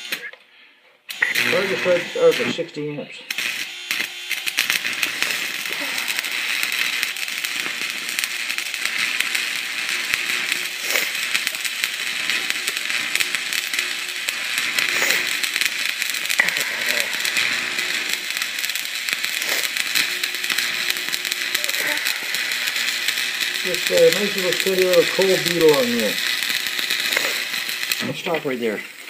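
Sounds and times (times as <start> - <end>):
welding arc crackling and sizzling: 0.0 - 0.3, 1.1 - 29.0.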